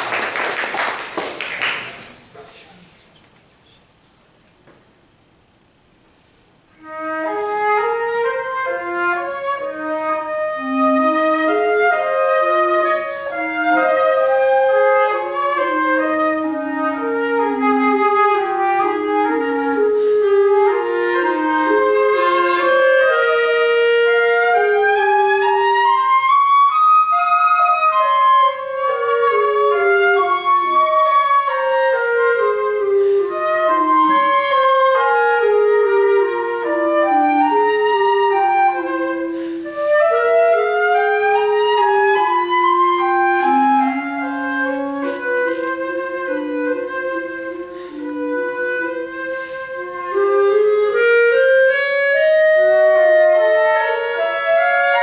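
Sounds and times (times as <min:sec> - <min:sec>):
flute and clarinet duet: 0:06.8 - 0:55.0.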